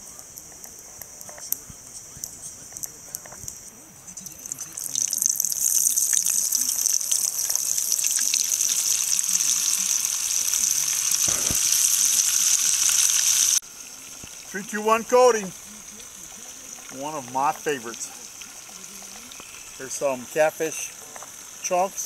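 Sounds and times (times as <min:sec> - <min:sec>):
butter sizzling in hot oil: 0:00.0 - 0:22.0.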